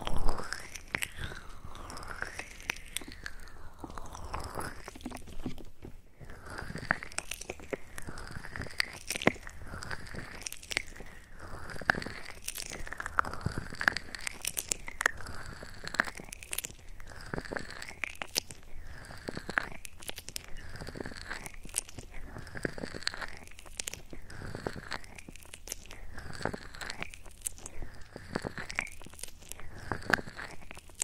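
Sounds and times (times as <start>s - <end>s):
wet mouth clicks and smacks: 0.0s - 31.0s.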